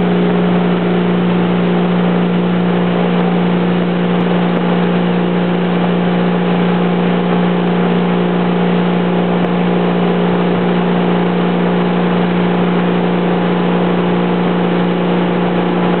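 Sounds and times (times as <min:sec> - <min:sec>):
boat engine droning: 0:00.0 - 0:16.0
rushing water and wind: 0:00.0 - 0:16.0.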